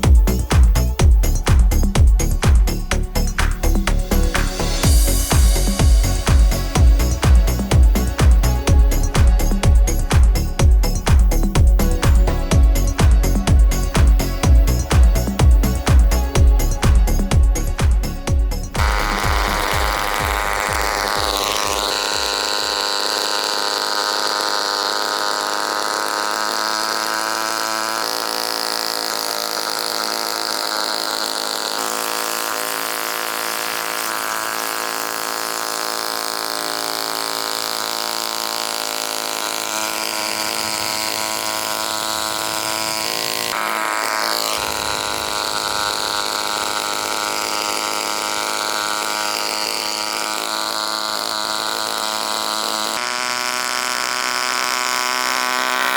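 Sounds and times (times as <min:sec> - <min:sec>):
small gasoline engine running: 0:00.0 - 0:55.9.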